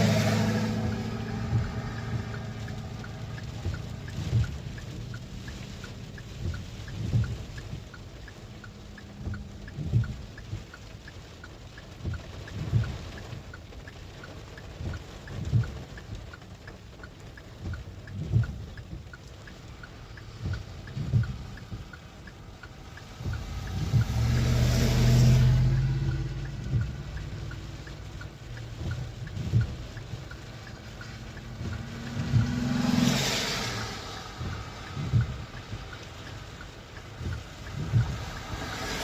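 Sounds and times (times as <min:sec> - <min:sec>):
steady fast ticking: 0:00.0 - 0:39.0
vehicles passing on road: 0:00.0 - 0:39.0.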